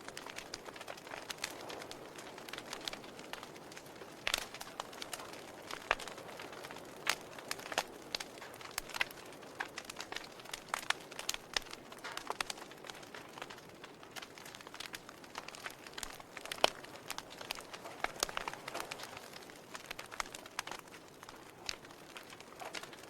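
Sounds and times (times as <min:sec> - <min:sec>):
sharp pops of fire: 0:00.0 - 0:23.0
wood fire crackling: 0:00.0 - 0:23.0.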